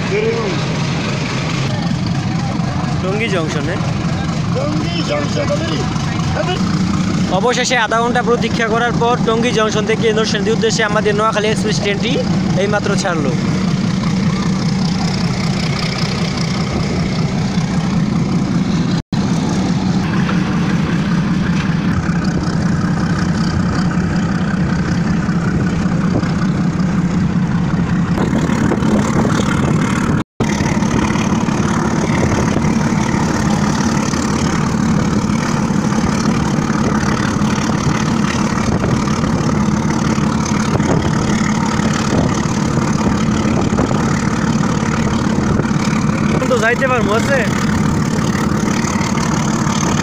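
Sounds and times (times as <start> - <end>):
train running rumble: 0.0 - 50.0.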